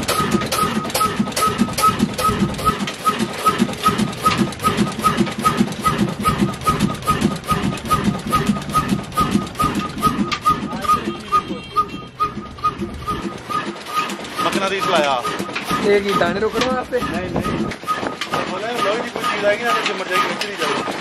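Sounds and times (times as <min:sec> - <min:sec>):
diesel flywheel engine running: 0:00.0 - 0:21.0.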